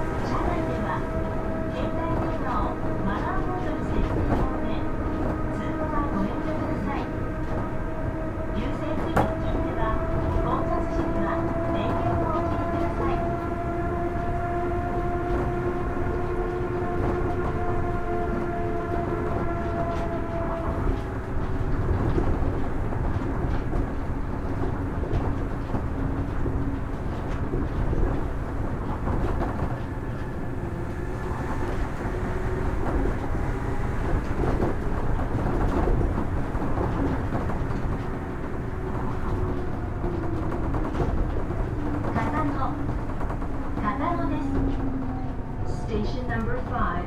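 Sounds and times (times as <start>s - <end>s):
train running rumble: 0.0s - 47.0s.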